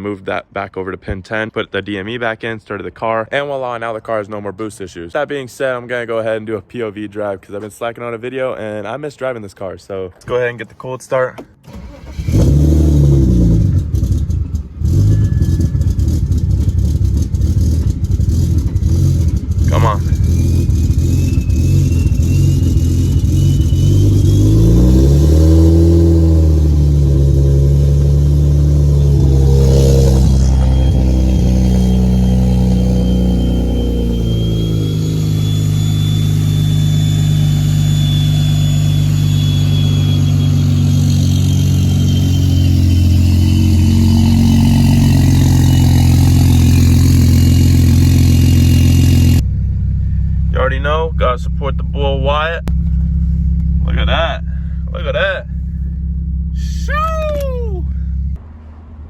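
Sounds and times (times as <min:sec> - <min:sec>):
car engine revving and idling: 0:11.7 - 0:59.0.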